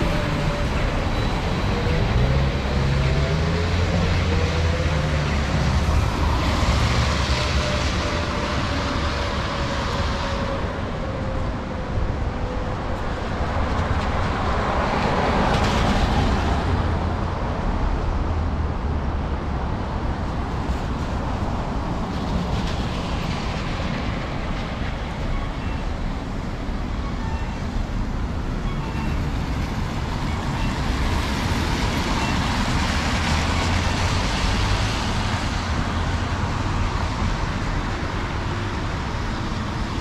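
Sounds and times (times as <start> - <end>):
low traffic rumble: 0.0 - 40.0.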